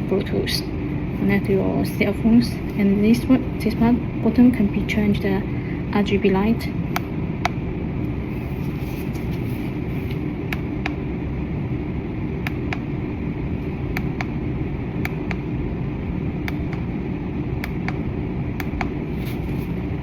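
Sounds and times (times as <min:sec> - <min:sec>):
steady low background hum: 0:00.0 - 0:20.0.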